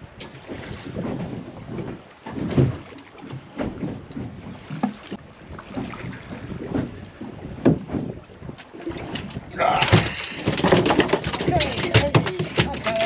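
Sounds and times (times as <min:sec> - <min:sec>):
water slapping boat hull: 0:00.0 - 0:13.0
wind buffeting microphone: 0:00.0 - 0:13.0.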